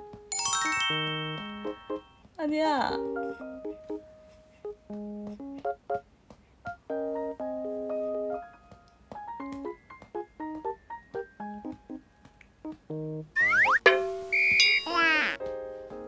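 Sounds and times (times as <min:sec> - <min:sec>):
slow keyboard melody: 0:00.0 - 0:02.3, 0:03.0 - 0:06.1, 0:06.7 - 0:13.5, 0:14.5 - 0:16.0.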